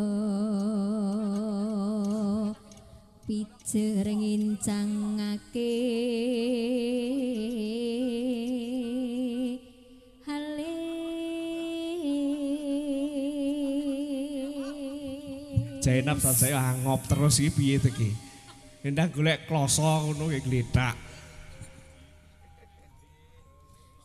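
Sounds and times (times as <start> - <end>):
person singing unaccompanied: 0.0 - 21.3.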